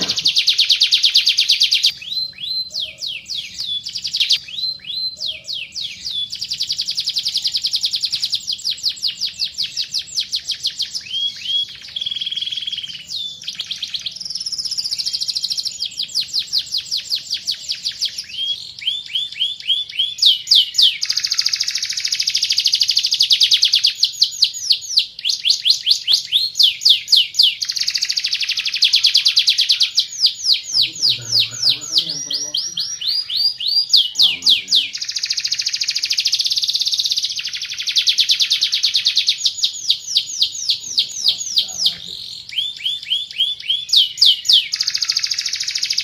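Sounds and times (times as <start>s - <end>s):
canary singing rapid trills: 0.0s - 46.0s.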